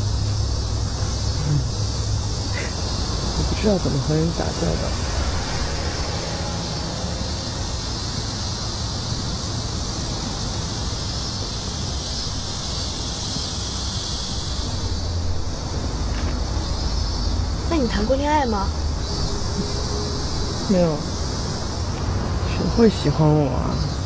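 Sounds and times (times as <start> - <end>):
high even hiss: 0.0 - 24.0.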